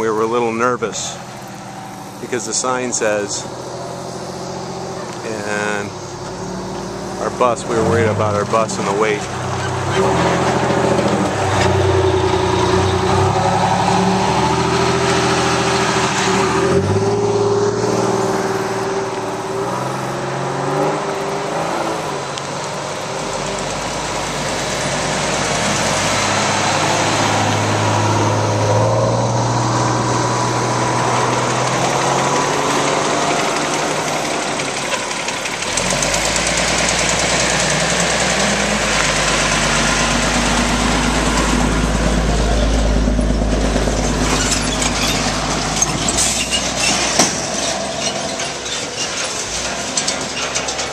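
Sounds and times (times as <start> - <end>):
truck engines idling: 0.0 - 50.9.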